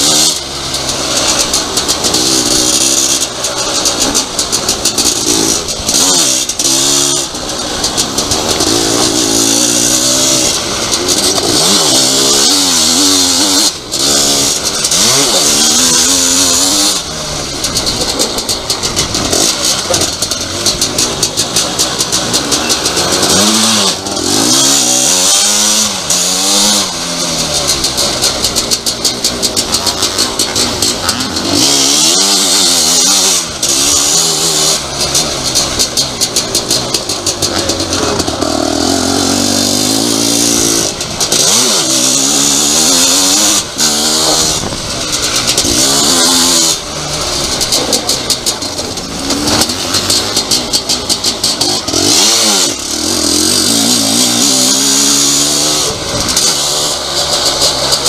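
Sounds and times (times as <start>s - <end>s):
motocross engine revving: 0.0s - 58.0s
wind and track hiss: 0.0s - 58.0s.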